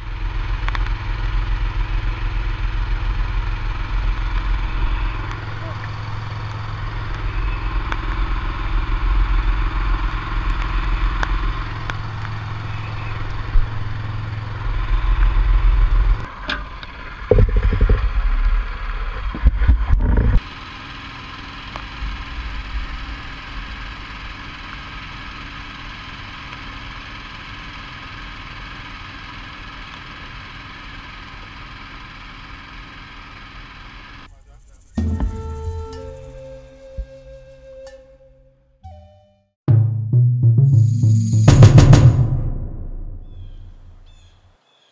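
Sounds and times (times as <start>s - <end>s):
engine knocks and surges: 0.0s - 37.7s, 39.7s - 44.5s
engine low rumble: 0.0s - 38.7s, 39.7s - 44.6s.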